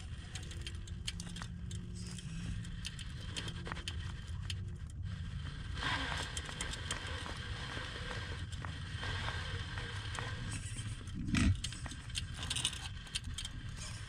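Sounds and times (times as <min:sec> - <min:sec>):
electric motor humming: 0:00.0 - 0:14.0
tires and axles clicking on rock: 0:00.0 - 0:14.0
tires grinding over rock and dirt: 0:00.0 - 0:14.0.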